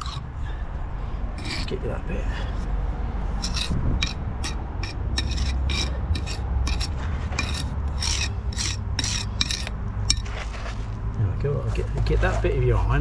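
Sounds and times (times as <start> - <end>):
pointing iron scraping mortar: 0.0 - 0.4, 1.3 - 13.0.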